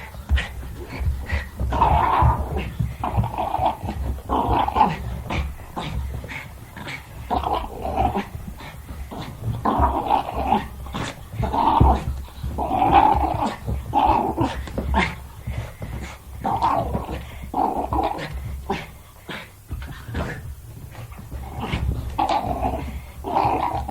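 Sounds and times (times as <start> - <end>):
dog growling in play: 0.0 - 23.9.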